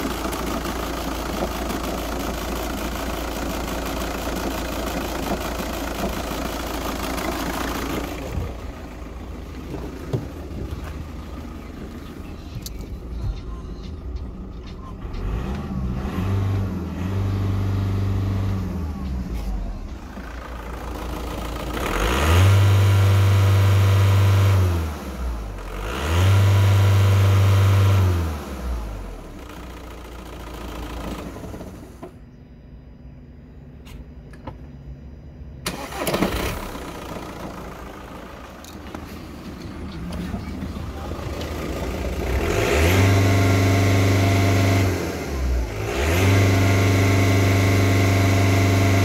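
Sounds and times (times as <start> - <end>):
diesel engine revving: 0.0 - 32.1, 35.6 - 49.0.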